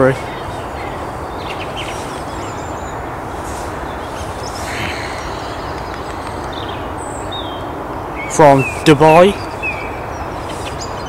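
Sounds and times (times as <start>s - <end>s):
high bird chirps: 0.0s - 11.0s
outdoor background noise: 0.0s - 11.0s.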